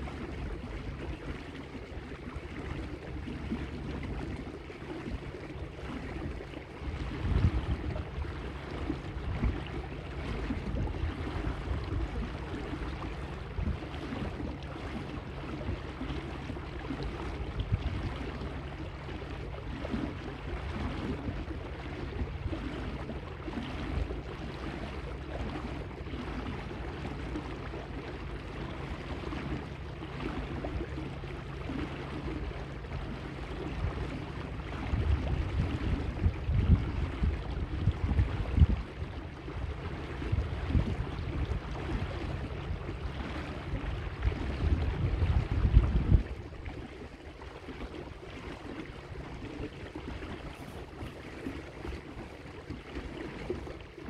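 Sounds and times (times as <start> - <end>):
water lapping against boat hull: 0.0 - 54.0
wind rumble on microphone: 0.0 - 54.0.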